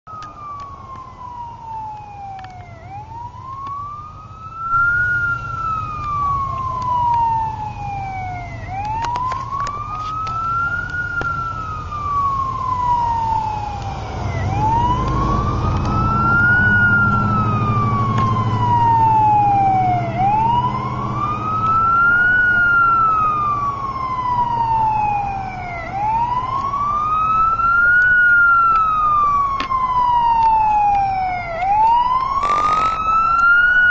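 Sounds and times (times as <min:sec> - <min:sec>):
siren slow wail: 0:00.1 - 0:33.9
vehicle engine and road noise: 0:00.1 - 0:33.9.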